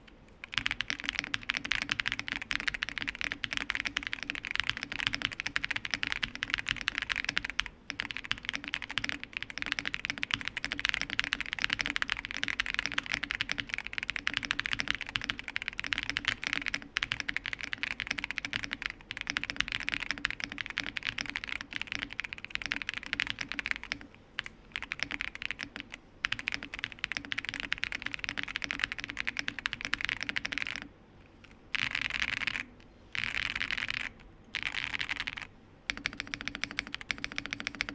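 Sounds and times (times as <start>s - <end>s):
fast typing on mechanical keyboard: 0.0s - 37.9s.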